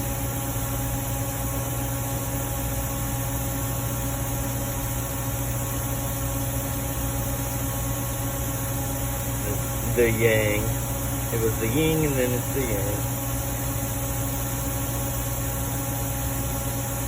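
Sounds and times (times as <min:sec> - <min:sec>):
machine drone with hiss: 0:00.0 - 0:17.0.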